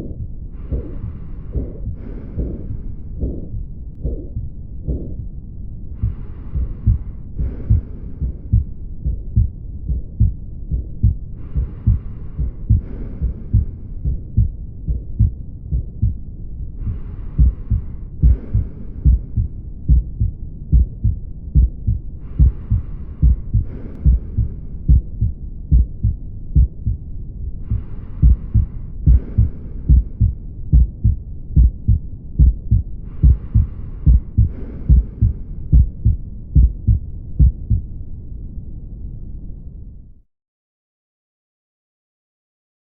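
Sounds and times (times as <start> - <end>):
heartbeat thuds through stethoscope: 0.0 - 5.4, 6.0 - 16.2, 16.8 - 27.0, 27.7 - 37.9
breath noise: 0.0 - 37.9.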